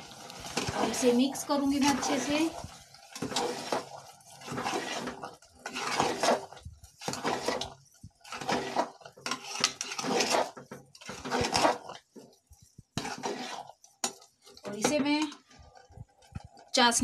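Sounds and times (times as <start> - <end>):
spoon scraping a pot: 1.8 - 16.7.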